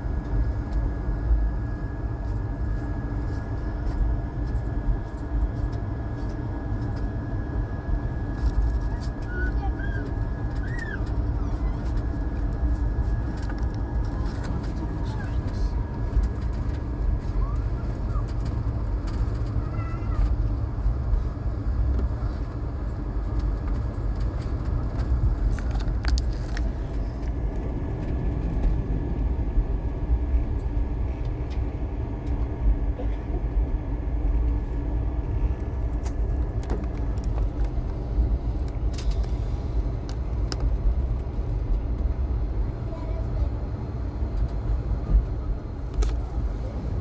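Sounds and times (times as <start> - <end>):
train running rumble: 0.0 - 47.0.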